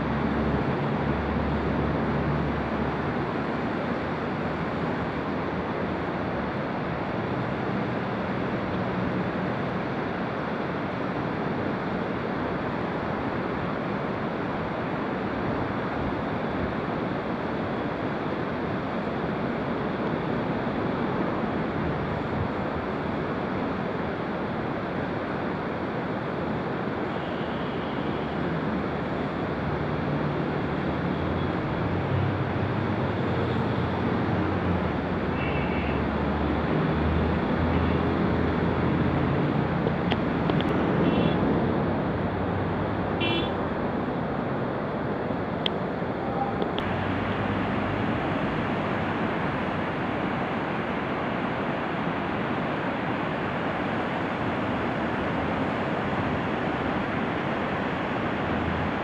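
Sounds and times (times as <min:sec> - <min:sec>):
river rushing over rapids: 0:00.0 - 0:59.0.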